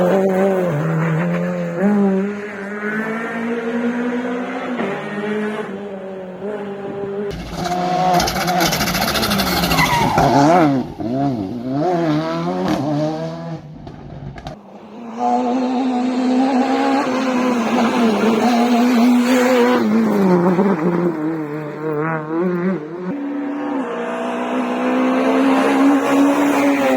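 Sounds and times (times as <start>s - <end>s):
rally car engines revving: 0.0s - 26.9s.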